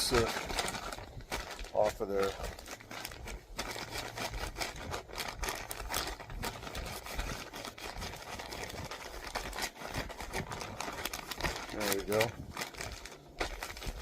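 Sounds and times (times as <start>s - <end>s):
rag scrubbing fabric: 0.0s - 14.0s.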